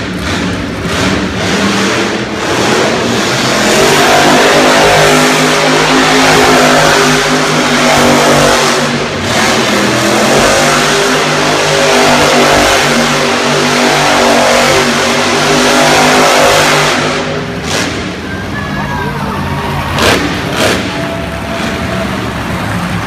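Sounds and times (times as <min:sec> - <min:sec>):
truck engine revving hard: 0:00.0 - 0:23.0.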